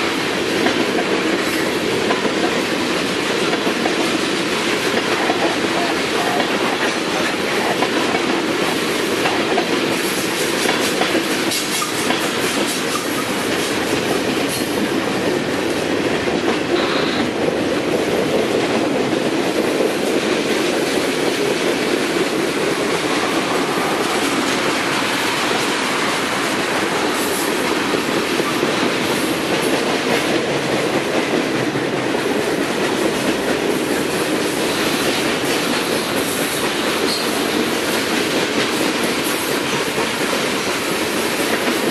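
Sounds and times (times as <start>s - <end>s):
train wheels rushing on rail: 0.0s - 41.9s
wheels clicking over rail joints: 0.5s - 41.9s.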